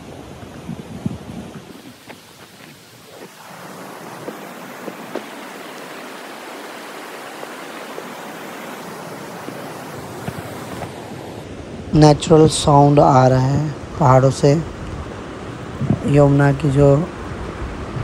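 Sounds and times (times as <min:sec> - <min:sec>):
mountain stream flowing: 0:00.0 - 0:18.0.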